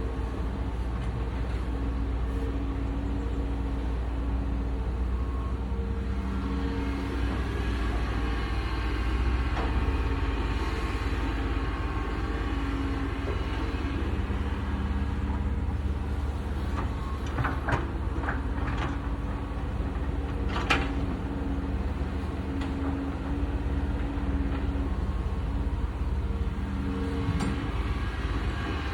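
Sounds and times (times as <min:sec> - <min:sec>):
excavator engine rumbling: 0:00.0 - 0:28.9.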